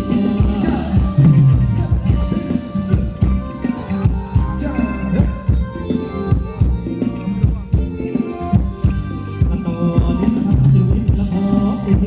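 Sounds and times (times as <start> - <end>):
drum beat: 0.0 - 12.0
live band dance music: 0.0 - 12.0.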